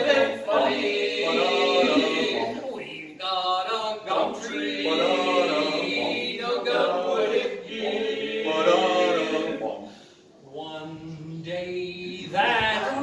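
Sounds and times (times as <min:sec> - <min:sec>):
male quartet singing a cappella: 0:00.0 - 0:13.0.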